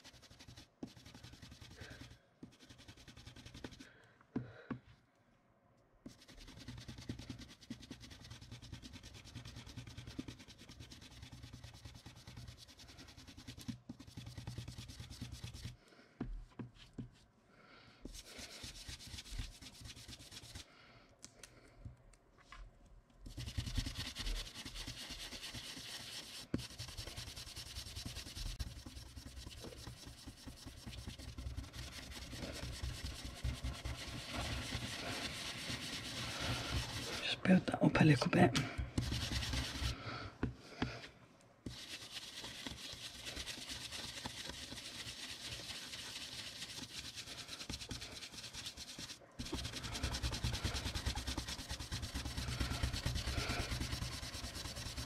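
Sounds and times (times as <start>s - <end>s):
tool rubbing over paper stencil: 0.0s - 3.9s, 6.0s - 15.8s, 18.0s - 20.7s, 23.2s - 41.0s, 41.6s - 55.0s.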